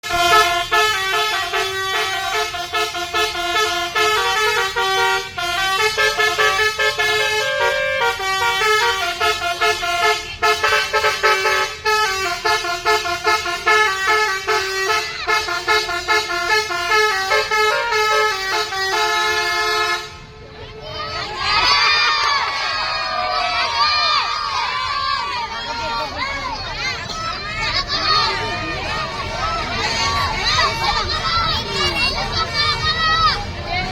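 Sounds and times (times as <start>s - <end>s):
bus musical horn melody: 0.0s - 25.6s, 27.0s - 33.6s.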